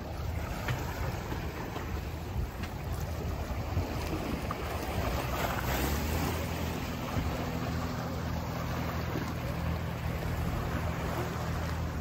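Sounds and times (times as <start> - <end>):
motor engine humming: 0.0 - 12.0
sea noise: 0.0 - 12.0
wind: 0.0 - 12.0.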